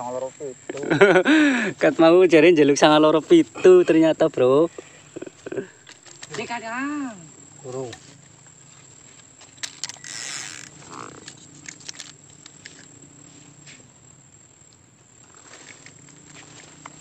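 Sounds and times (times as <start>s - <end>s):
faint low hum: 0.0s - 17.0s
high-pitched whine: 0.0s - 17.0s.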